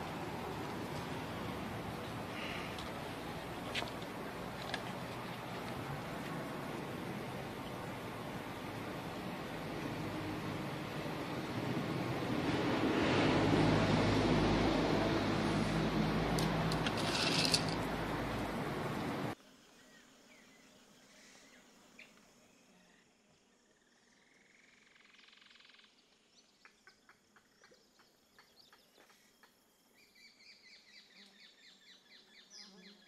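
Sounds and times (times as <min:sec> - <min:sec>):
faint outdoor ambience: 0:00.0 - 0:33.0.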